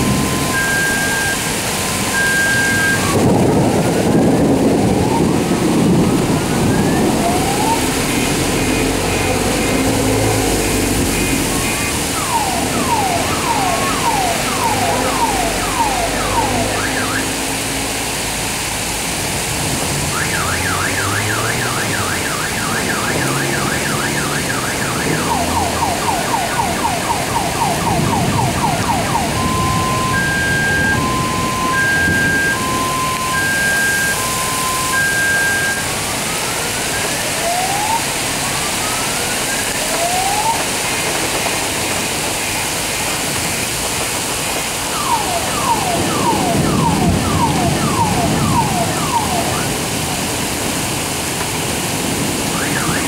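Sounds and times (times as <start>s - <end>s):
car alarm: 0.0s - 4.2s, 4.9s - 17.4s, 20.1s - 40.8s, 44.9s - 50.2s, 52.3s - 53.0s
heavy rain pouring: 0.0s - 53.0s.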